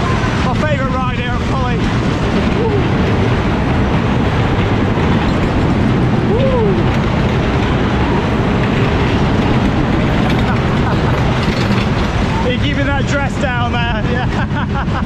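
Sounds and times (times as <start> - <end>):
fairground ride rumbling: 0.0 - 15.0.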